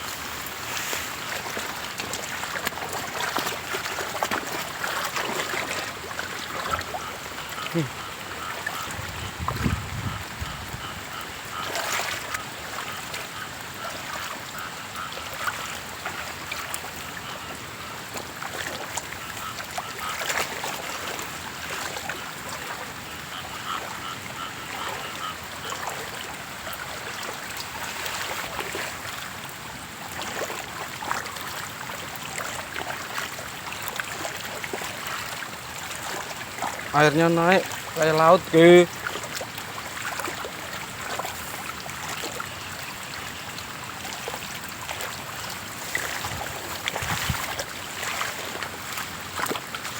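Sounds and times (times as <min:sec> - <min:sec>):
floodwater rushing: 0:00.0 - 0:49.9.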